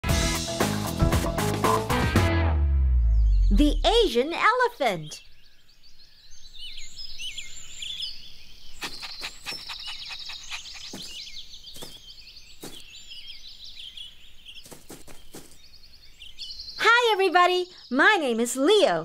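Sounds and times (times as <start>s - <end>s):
birds chirping and twittering: 3.0s - 19.0s.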